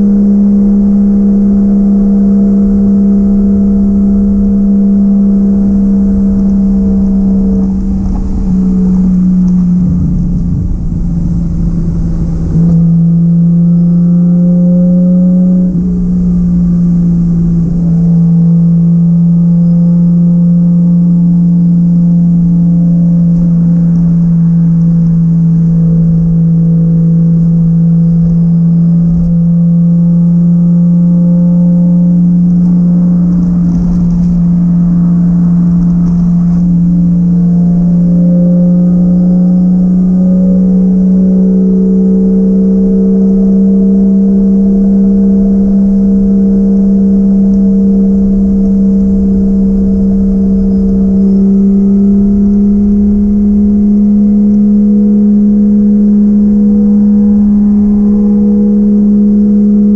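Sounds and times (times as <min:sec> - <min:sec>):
engine droning at steady revs: 0:00.0 - 0:59.9.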